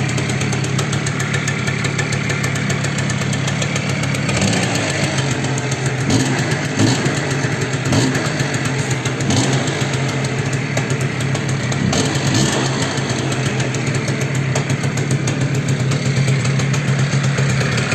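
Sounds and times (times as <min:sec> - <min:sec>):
scooter engine knocking: 0:00.0 - 0:17.9.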